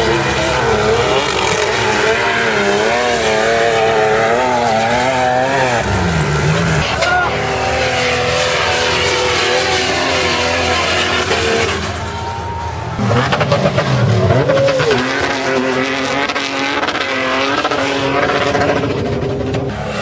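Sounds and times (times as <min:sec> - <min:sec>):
suv engines revving hard: 0:00.0 - 0:20.0.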